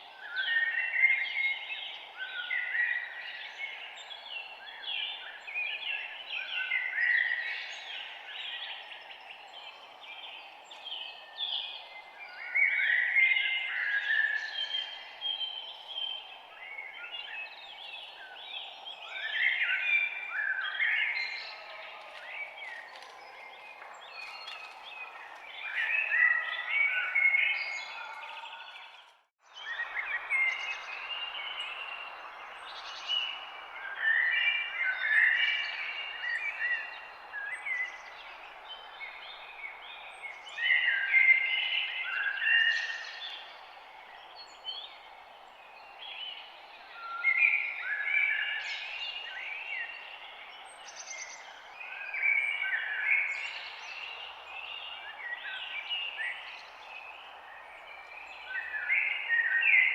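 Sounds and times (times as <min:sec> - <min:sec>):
songbirds chirping and warbling: 0:00.0 - 0:59.9.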